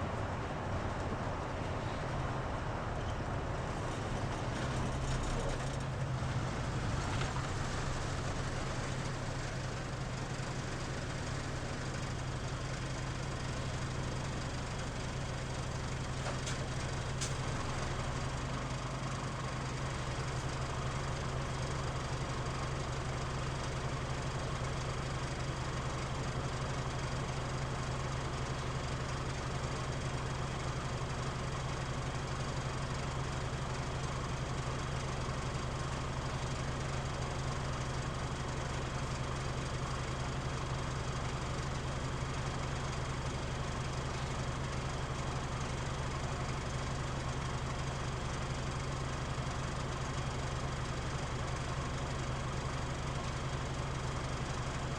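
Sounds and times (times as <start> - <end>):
bus diesel engine idling: 0.0 - 54.9.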